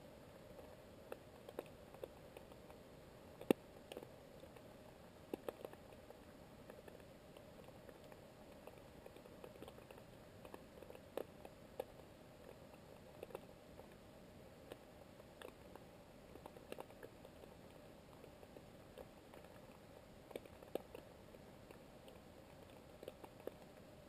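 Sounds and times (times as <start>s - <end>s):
underwater clicks and ticks: 0.6s - 2.8s, 3.4s - 4.7s, 5.3s - 14.0s, 14.6s - 23.9s.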